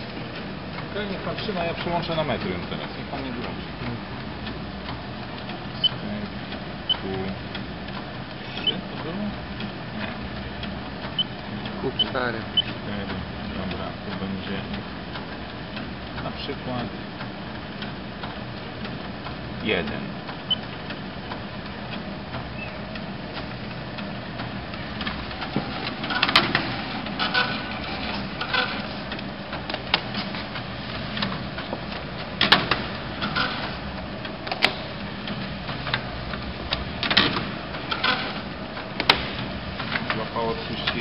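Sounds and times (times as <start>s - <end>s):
machine humming: 0.0s - 41.0s
sharp clicks and knocks: 6.9s - 41.0s.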